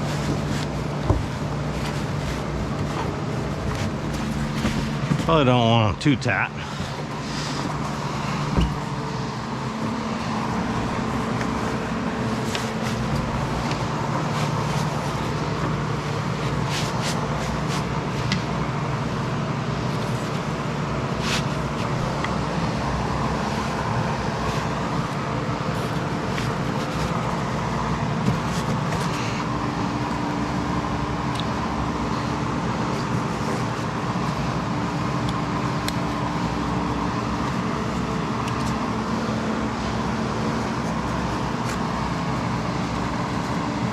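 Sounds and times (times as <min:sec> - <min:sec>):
mechanical drone with low hum: 0:00.0 - 0:43.9.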